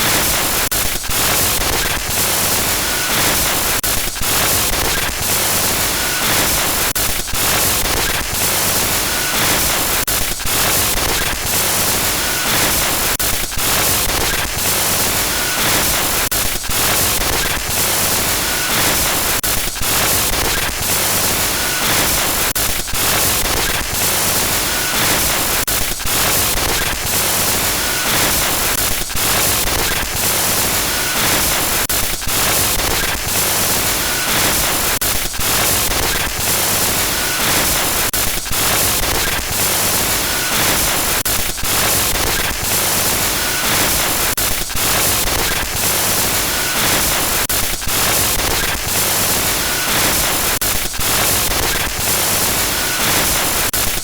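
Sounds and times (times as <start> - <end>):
static glitch noise: 0.0 - 54.0.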